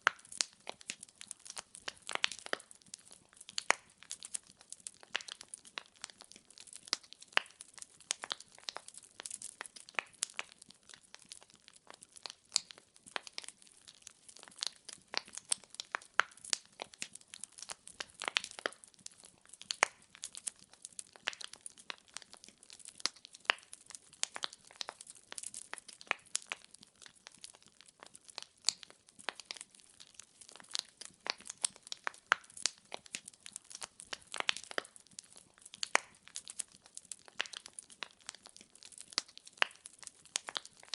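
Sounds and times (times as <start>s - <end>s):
firewood crackling: 0.0s - 40.9s.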